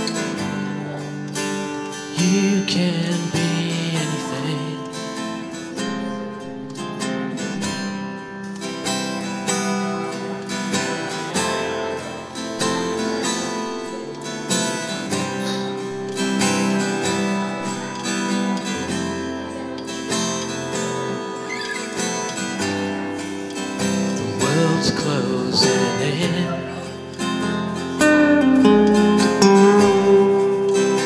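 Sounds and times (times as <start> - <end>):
solo acoustic guitar: 0.0 - 31.0.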